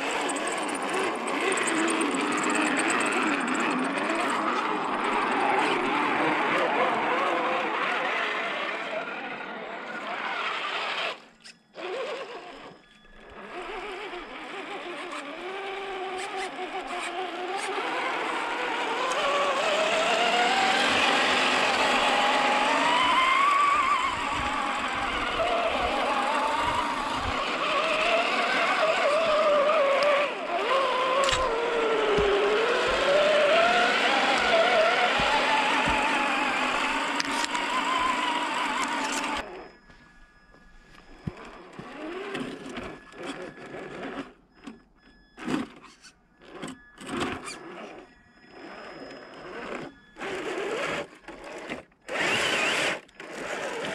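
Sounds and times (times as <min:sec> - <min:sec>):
electric motor whining: 0:00.0 - 0:53.9.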